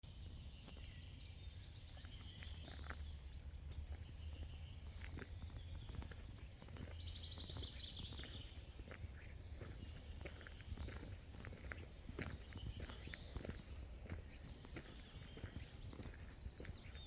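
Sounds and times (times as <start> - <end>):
small birds chirping and trilling: 0.3 - 17.0.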